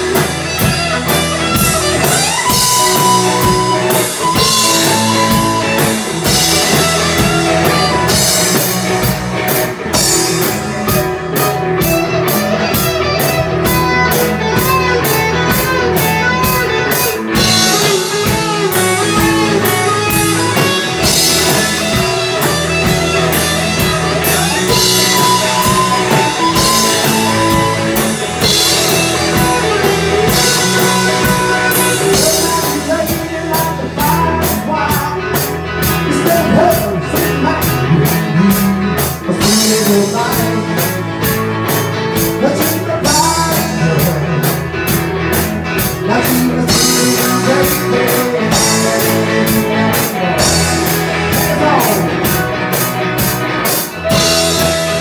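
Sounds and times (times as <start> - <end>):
drum kit beat: 0.0 - 55.0
electric guitars: 0.0 - 55.0.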